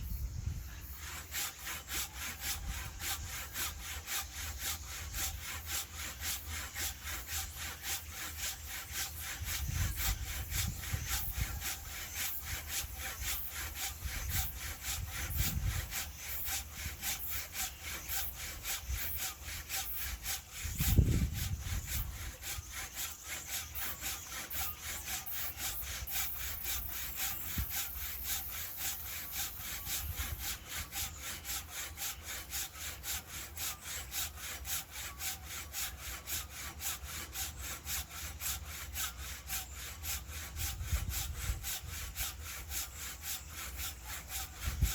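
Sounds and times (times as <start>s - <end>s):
hand saw cutting wood: 0.0s - 44.9s.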